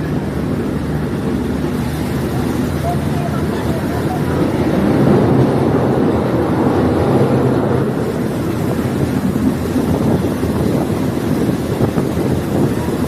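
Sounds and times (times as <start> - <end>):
train engine and wheels rumbling: 0.0 - 13.0
wind on microphone: 0.0 - 13.0.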